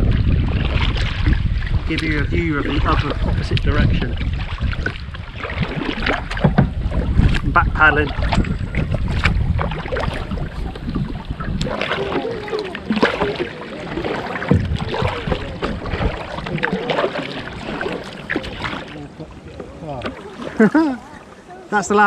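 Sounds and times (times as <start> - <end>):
wind rumble on microphone: 0.0 - 20.1
kayak paddle splashing in water: 0.0 - 22.0.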